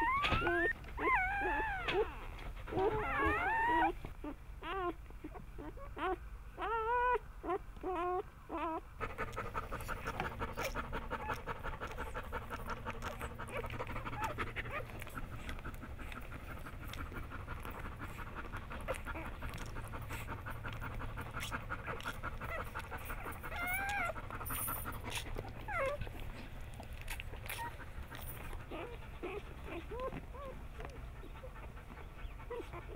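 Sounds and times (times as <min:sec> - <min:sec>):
dog panting rapidly: 0:00.0 - 0:04.0, 0:08.6 - 0:32.9
puppies squealing: 0:00.0 - 0:32.9.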